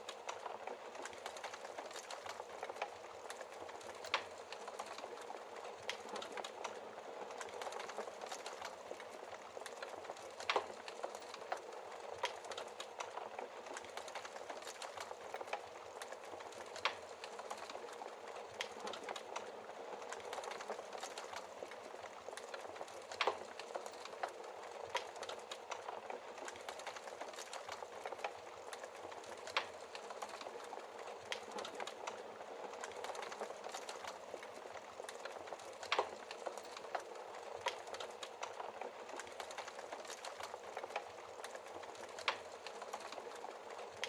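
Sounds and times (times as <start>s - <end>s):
fire hissing in fireplace: 0.0s - 44.0s
logs crackling and popping: 0.0s - 44.0s.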